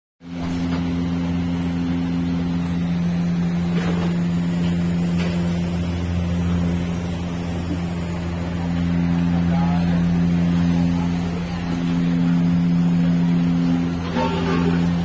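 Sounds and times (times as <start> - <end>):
low machine hum: 0.2 - 15.0.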